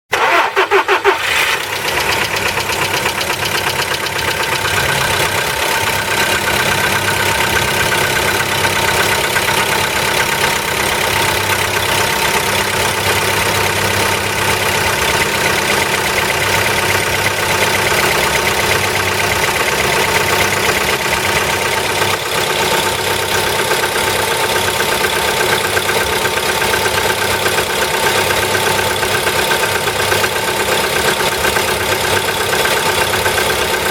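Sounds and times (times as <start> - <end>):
car engine idling with knocking: 1.6 - 33.9.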